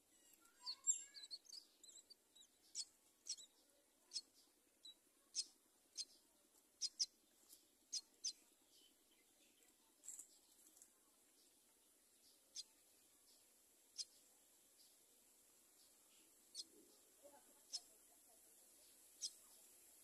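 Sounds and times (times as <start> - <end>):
nestlings chirping: 0.0 - 20.0.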